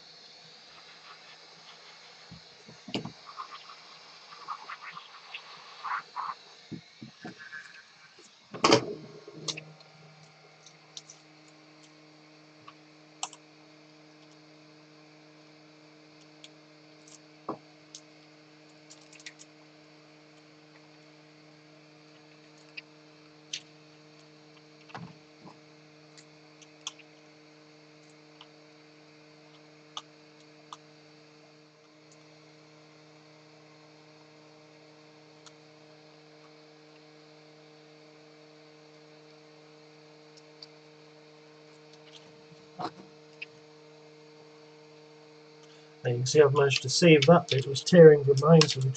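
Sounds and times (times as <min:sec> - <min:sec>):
hot-air gun humming: 0:00.0 - 0:48.9.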